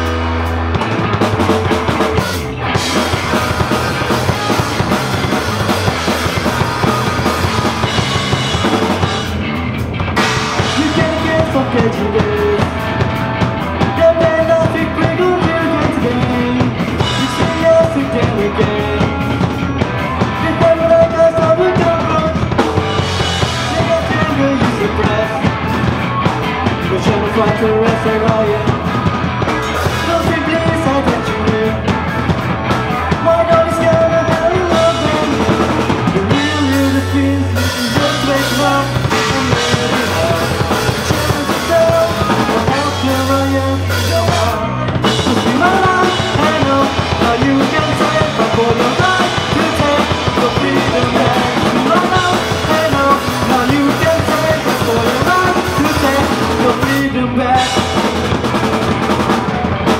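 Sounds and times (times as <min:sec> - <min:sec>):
bass guitar: 0:00.0 - 0:59.9
drum kit: 0:00.0 - 0:59.9
electric guitar: 0:00.0 - 0:59.9
person singing: 0:10.2 - 0:59.9.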